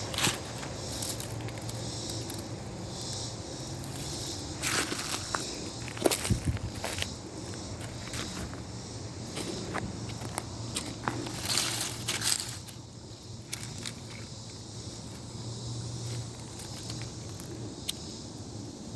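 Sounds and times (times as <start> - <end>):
dry leaves and twigs crunching underfoot: 0.0 - 18.2.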